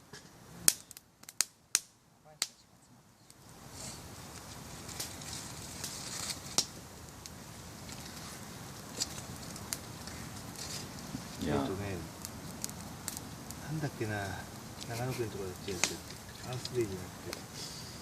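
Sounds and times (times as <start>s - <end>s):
campfire crackling: 0.0s - 18.0s
steady fire hiss: 0.0s - 18.0s
fire pops: 0.1s - 2.6s, 3.3s - 18.0s.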